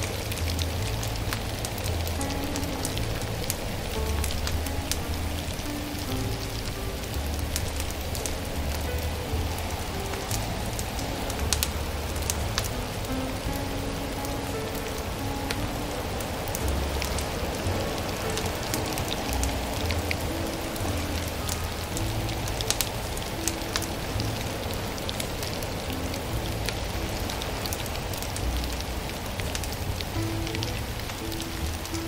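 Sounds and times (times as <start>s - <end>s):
rain-like patter: 0.0s - 32.0s
soft slow low music: 0.0s - 32.0s
wood fire crackling: 0.0s - 32.0s.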